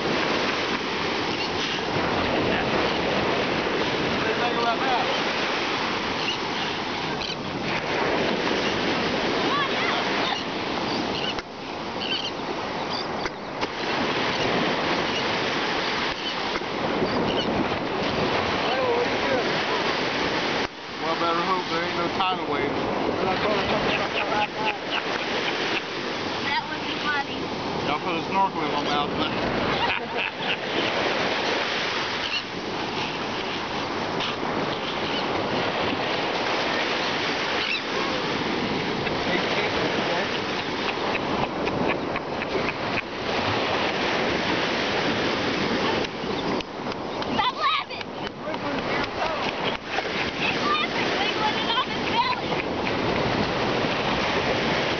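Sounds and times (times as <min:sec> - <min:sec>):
surf washing on beach: 0:00.0 - 0:54.9
wind on microphone: 0:00.0 - 0:54.9.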